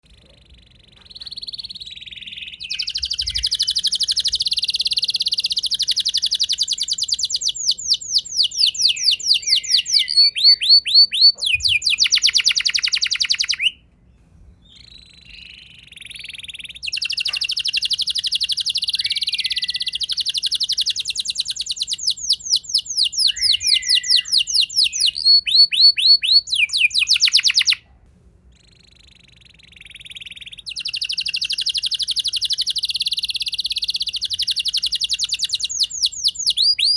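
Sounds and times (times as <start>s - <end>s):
canary singing trills: 0.0s - 13.8s, 14.6s - 27.8s, 28.6s - 36.9s.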